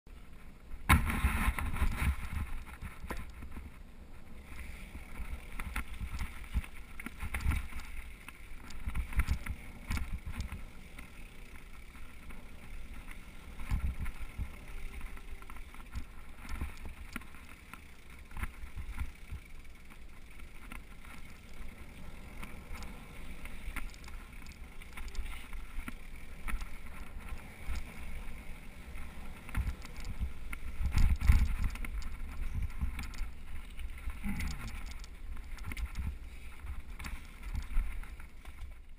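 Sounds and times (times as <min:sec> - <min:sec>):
bike rattling over bumps: 0:00.1 - 0:38.9
bike tyres rolling on gravel: 0:00.1 - 0:38.9
wind rumbling on microphone: 0:00.1 - 0:38.9.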